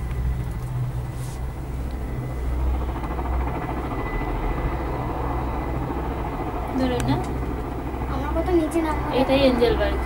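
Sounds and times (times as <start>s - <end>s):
faint high whine: 0.0s - 10.0s
gondola cabin low rumble: 0.0s - 10.0s.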